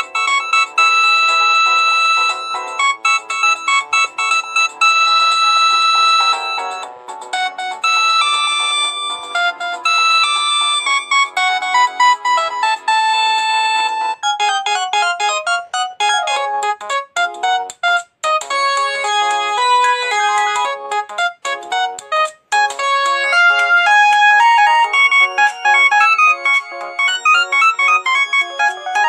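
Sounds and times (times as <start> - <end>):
polyphonic ringtone melody: 0.0 - 29.0.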